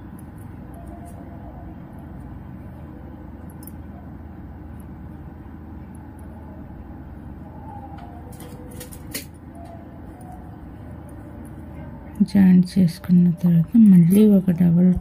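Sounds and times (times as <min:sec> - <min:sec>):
low background rumble and hum: 0:00.0 - 0:15.0.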